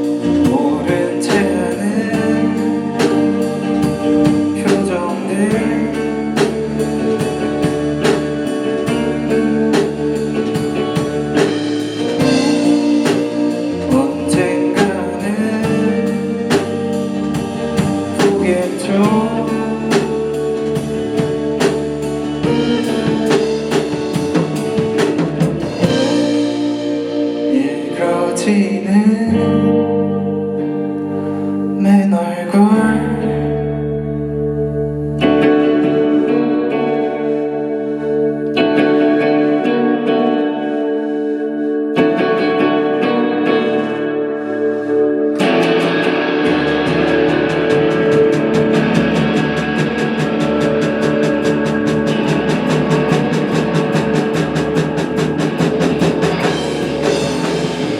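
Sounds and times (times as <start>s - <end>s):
live rock band playing: 0.0s - 57.9s
sustained electric guitar: 0.0s - 57.9s.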